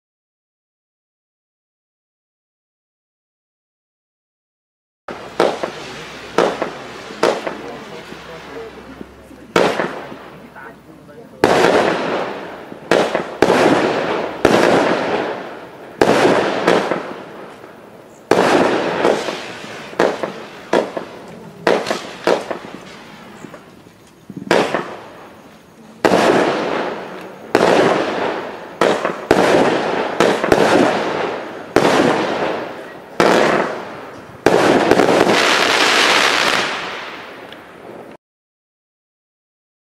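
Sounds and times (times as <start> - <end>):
fireworks bangs: 5.1 - 38.2.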